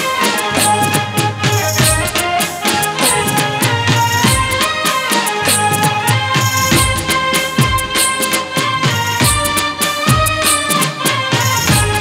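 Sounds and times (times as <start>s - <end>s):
drums beating: 0.0s - 12.0s
folk band playing: 0.0s - 12.0s.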